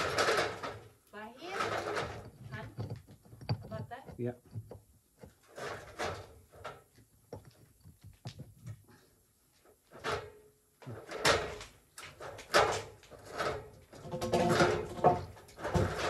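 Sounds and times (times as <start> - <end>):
timber and rubble scraping and knocking: 0.0 - 16.0.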